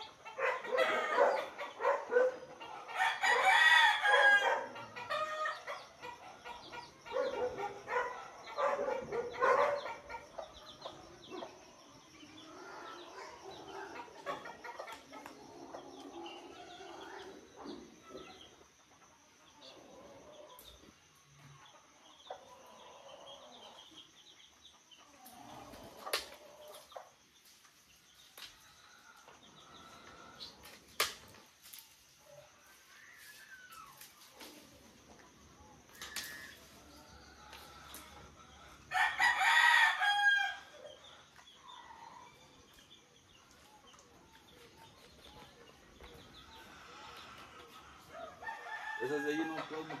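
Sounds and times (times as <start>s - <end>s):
chickens clucking: 0.0s - 39.1s, 40.4s - 50.0s.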